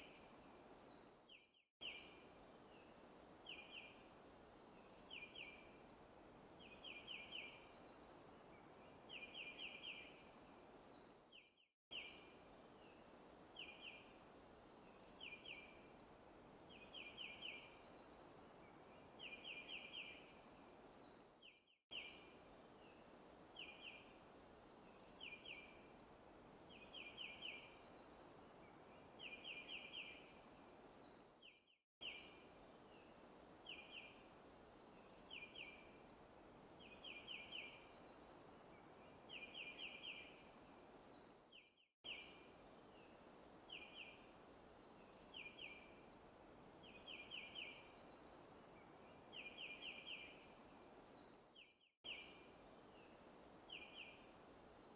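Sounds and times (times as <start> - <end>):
soft forest ambience hiss: 0.0 - 54.9.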